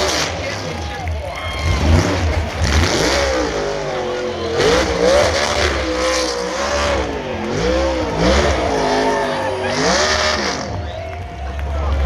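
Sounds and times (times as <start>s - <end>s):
race car engines racing past: 0.0s - 12.0s.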